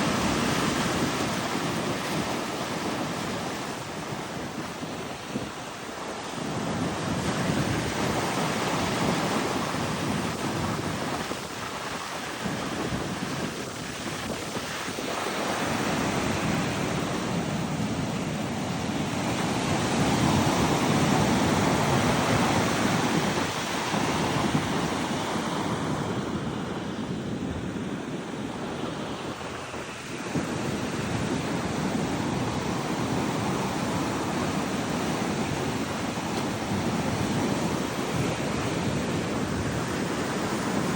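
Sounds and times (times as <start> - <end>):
ocean surf breaking: 0.0 - 40.9
wind buffeting microphone: 0.0 - 40.9.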